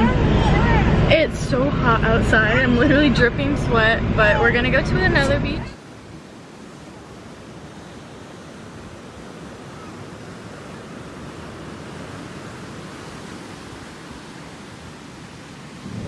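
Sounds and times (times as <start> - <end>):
ocean surf washing onto shore: 0.0 - 16.0.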